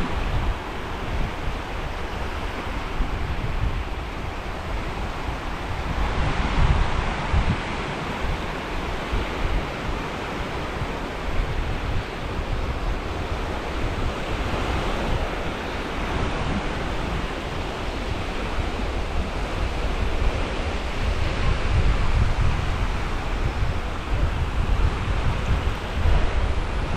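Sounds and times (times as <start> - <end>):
sea waves washing onto beach: 0.0 - 26.9
wind buffeting microphone: 0.0 - 26.9.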